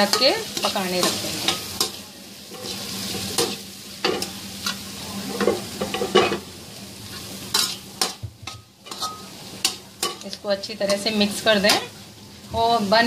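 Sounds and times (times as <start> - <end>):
spatula scraping a pan: 0.0 - 6.4, 7.1 - 11.9
onions sizzling in hot oil: 0.0 - 13.0.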